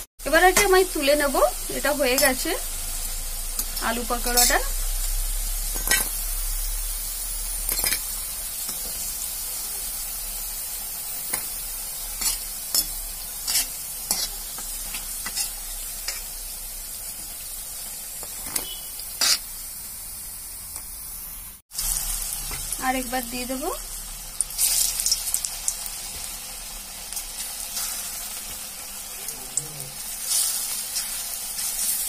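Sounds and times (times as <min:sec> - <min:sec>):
deep-frying sizzle: 0:00.0 - 0:32.0.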